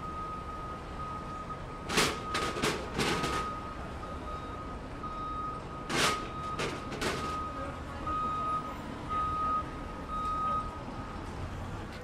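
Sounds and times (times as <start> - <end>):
high electronic warning beeps: 0.0 - 10.8.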